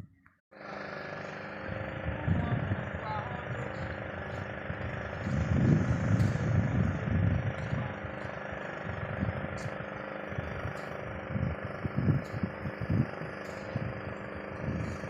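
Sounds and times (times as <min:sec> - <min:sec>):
engine humming: 0:00.6 - 0:15.0
uneven low rumbling: 0:00.8 - 0:15.0.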